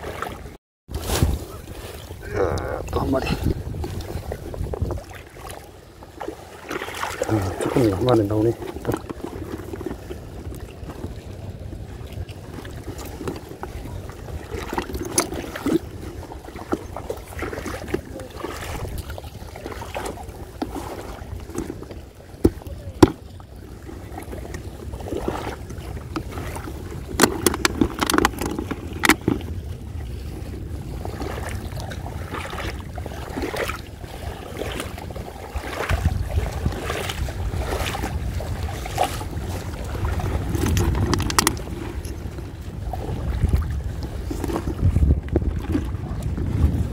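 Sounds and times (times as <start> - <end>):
water sloshing around wading person: 0.0 - 46.9
wind buffeting microphone: 0.0 - 46.9.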